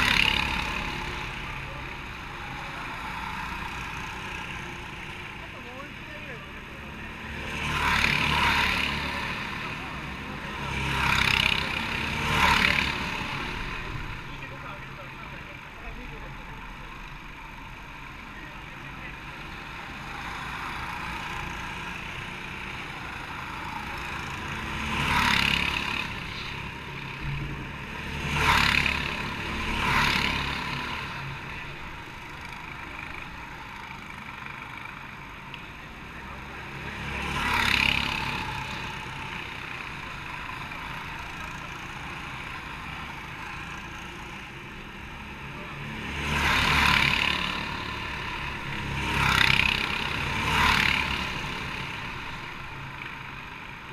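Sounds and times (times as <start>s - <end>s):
go-kart engines passing: 0.0s - 53.9s.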